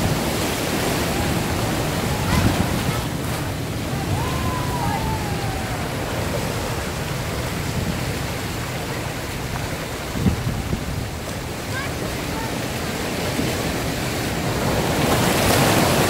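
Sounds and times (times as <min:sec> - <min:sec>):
ocean surf breaking on rocks: 0:00.0 - 0:16.0.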